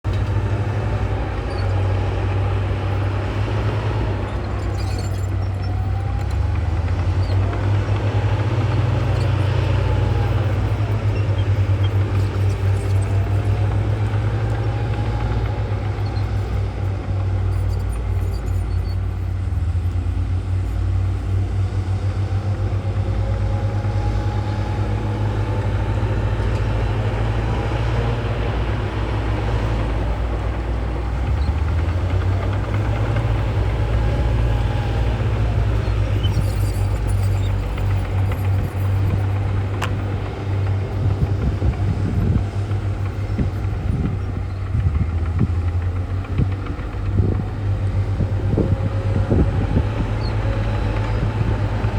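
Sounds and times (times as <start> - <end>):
bulldozer diesel engine rumbling: 0.0 - 51.9
high engine whine: 0.0 - 51.9.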